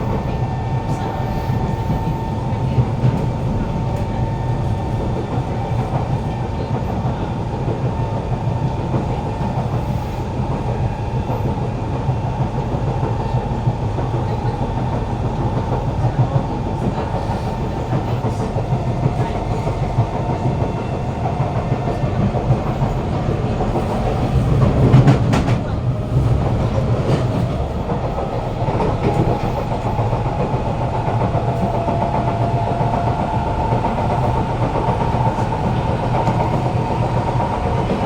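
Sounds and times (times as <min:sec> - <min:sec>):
train wheels running on rails: 0:00.0 - 0:38.0.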